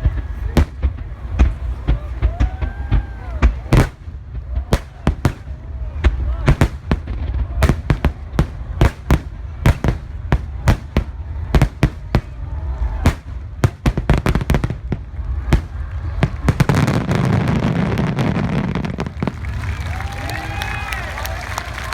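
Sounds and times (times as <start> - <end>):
fireworks bursts cracking: 0.0 - 21.9.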